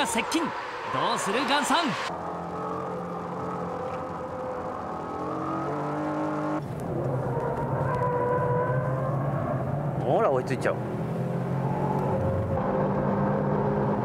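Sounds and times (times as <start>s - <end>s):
racing car engine in cabin: 0.0s - 14.0s
turbocharged car engine at speed: 0.0s - 14.0s.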